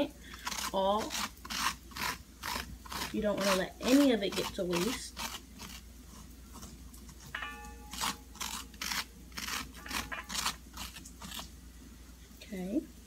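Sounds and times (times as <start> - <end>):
utensil scraping squash: 0.0 - 11.6.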